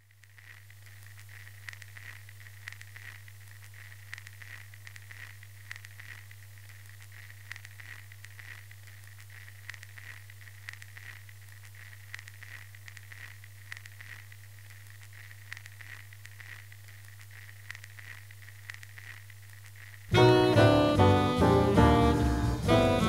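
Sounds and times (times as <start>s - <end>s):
sharp crackles: 0.0s - 23.0s.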